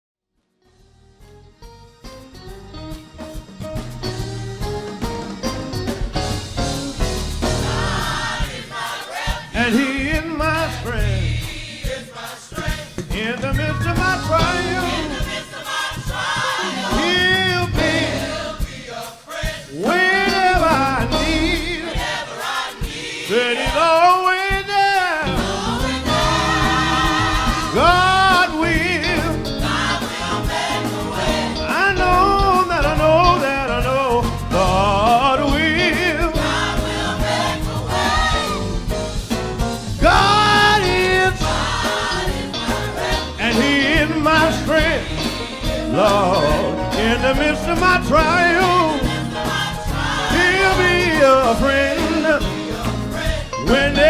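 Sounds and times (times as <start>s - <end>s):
band accompaniment: 0.8s - 54.0s
gospel choir singing: 3.8s - 54.0s.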